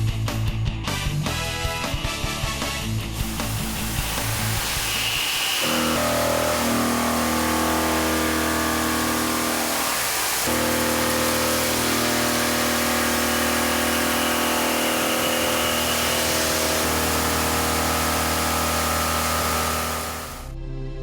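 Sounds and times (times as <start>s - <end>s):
milling machine cutting metal: 3.2s - 20.5s.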